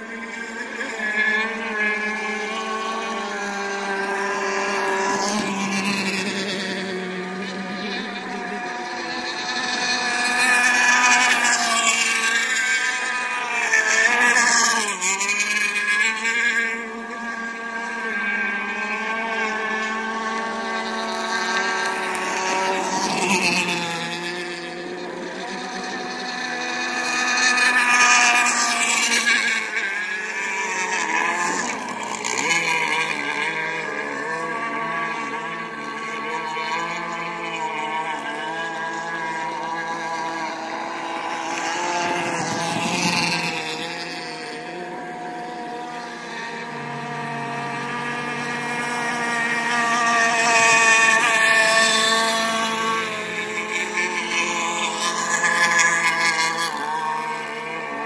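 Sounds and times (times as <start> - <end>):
racing boat engines: 0.0 - 58.0.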